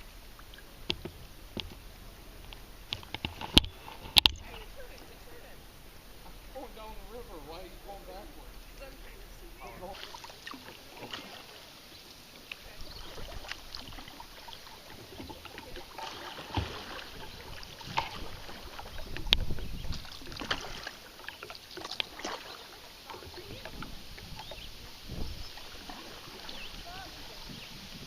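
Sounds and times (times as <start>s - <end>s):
paddle dipping and dripping: 0.0s - 28.0s
small water splashes: 0.0s - 28.0s.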